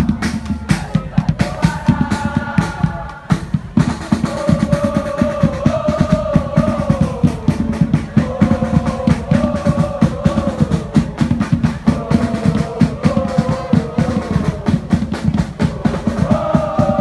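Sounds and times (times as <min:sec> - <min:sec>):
bass and snare drumming: 0:00.0 - 0:17.0.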